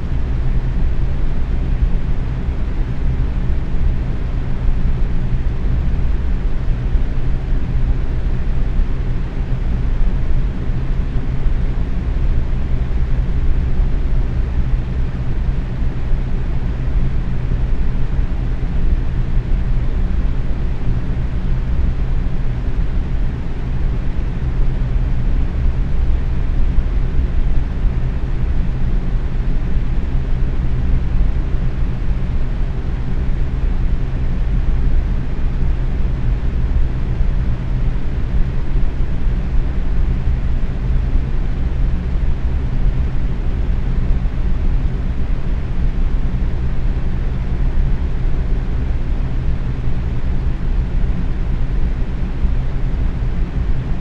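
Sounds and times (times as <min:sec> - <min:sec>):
faint motor hum: 0:00.0 - 0:54.0
fan air whoosh: 0:00.0 - 0:54.0.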